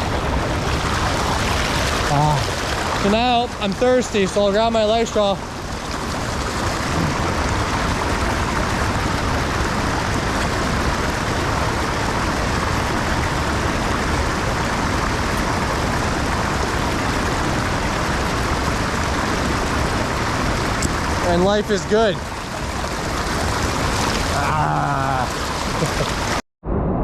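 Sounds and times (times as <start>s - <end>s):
waterfall splashing into pool: 0.0s - 26.4s.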